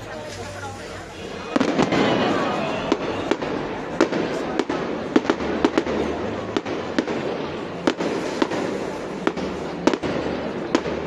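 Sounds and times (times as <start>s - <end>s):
fireworks bangs: 0.4s - 11.0s.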